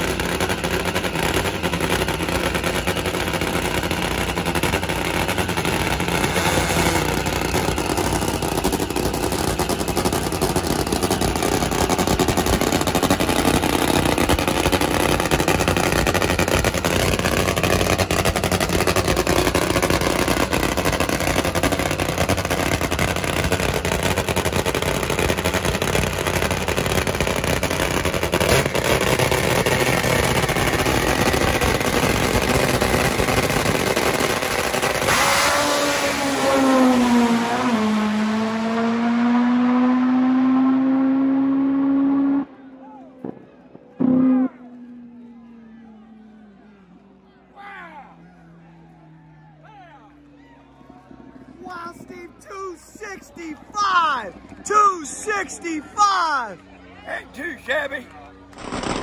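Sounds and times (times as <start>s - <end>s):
drag motorcycle engines roaring: 0.0s - 59.0s.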